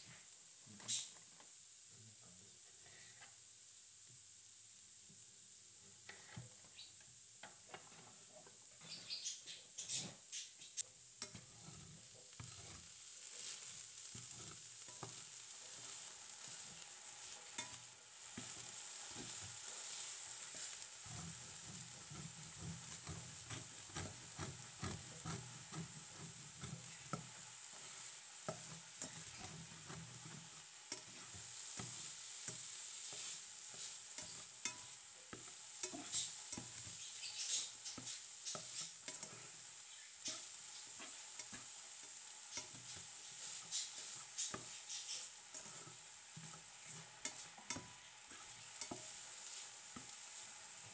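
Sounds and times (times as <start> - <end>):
food sizzling in a pan: 0.0 - 50.9
spatula scraping and tapping pan: 6.0 - 9.2, 11.2 - 50.9.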